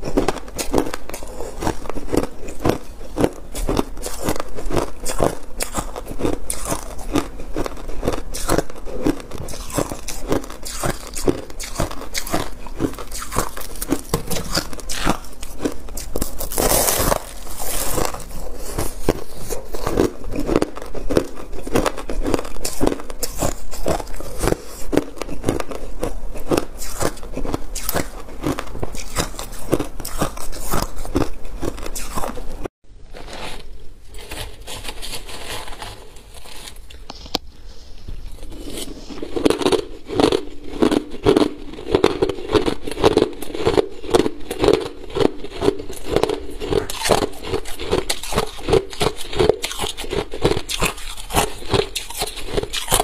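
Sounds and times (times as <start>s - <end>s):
crunchy ice chewing: 0.0s - 37.4s, 38.1s - 53.0s
metal spoon scraping crushed ice: 0.1s - 25.7s, 33.2s - 36.8s, 38.4s - 53.0s.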